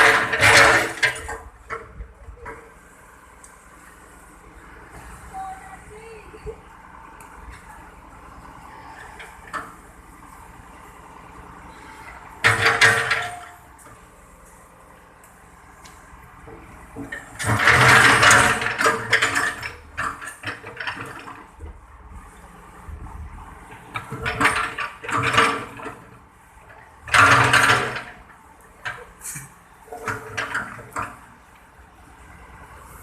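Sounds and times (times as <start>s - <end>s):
backhoe machine rumble: 0.0s - 33.0s.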